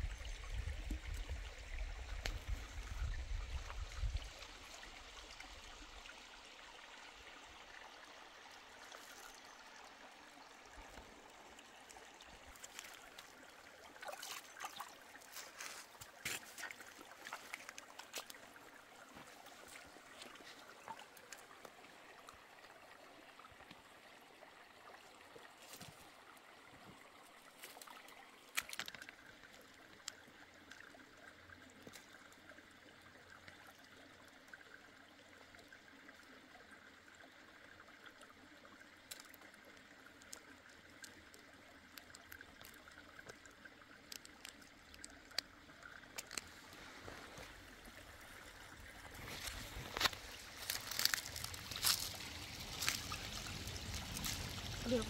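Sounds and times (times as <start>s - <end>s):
trickle of running water: 0.0s - 55.0s.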